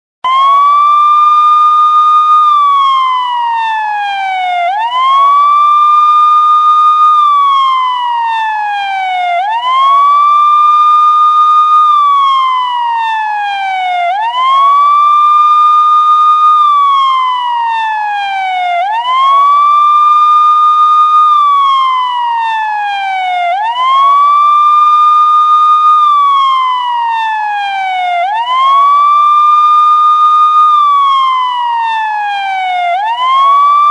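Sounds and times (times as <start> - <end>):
police siren wailing: 0.2 - 33.9.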